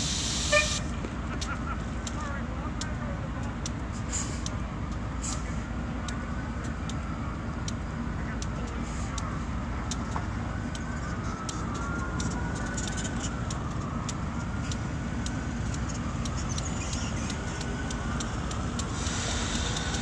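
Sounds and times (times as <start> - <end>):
locomotive engine rumbling: 0.0 - 20.0
light clicks: 2.8 - 7.8, 8.4 - 20.0.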